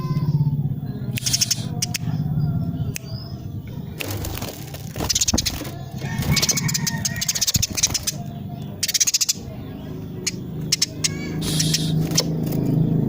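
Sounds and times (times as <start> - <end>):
sparrow chattering: 0.8 - 12.7.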